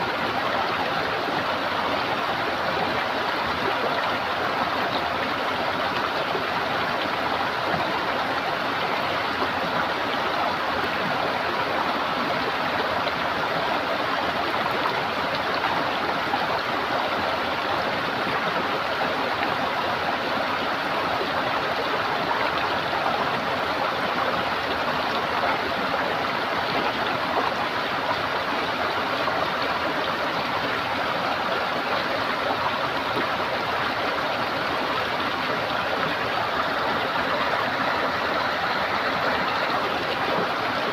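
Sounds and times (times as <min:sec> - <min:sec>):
running water gurgling: 0:00.0 - 0:40.9.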